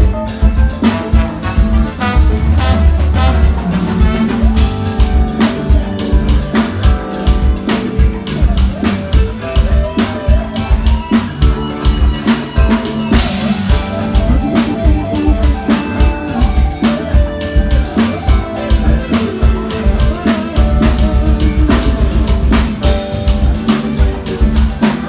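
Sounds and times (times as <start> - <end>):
drum kit beat: 0.0 - 25.0
live band playing: 0.0 - 25.0.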